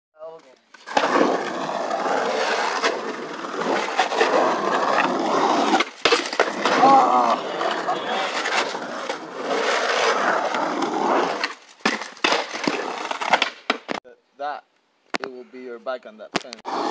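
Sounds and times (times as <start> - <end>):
skateboard wheels rolling on concrete: 0.3 - 14.0, 16.2 - 16.9.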